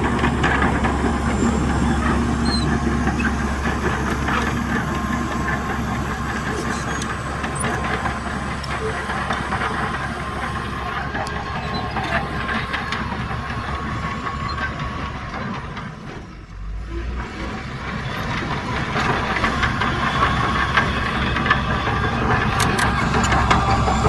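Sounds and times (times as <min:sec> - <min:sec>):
diesel machinery engine hum: 0:00.0 - 0:24.0.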